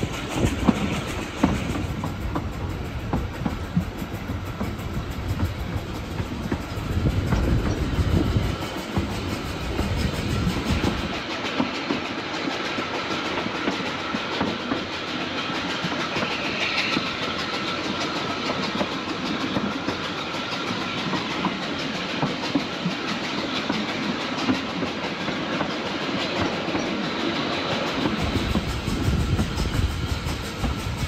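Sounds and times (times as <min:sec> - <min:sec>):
steam train wheels rattling on track: 0:00.0 - 0:31.0.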